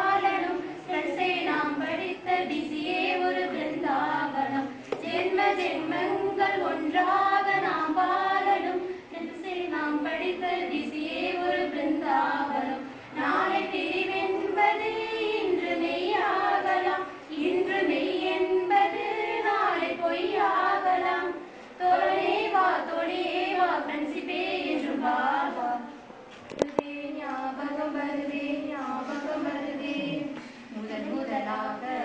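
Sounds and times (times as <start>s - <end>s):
women singing: 0.0s - 32.0s.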